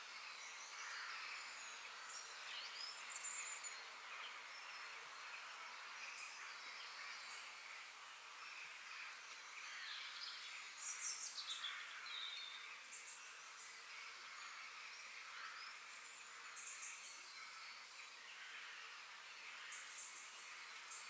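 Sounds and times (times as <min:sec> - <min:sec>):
background birdsong and insects: 0:00.0 - 0:21.0.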